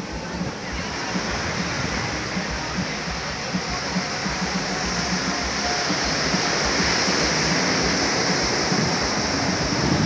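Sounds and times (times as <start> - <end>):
surf breaking on beach: 0.0 - 10.0.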